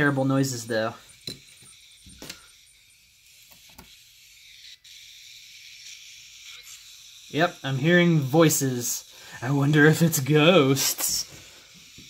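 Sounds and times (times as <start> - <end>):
faint radio static hissing: 0.0 - 12.0.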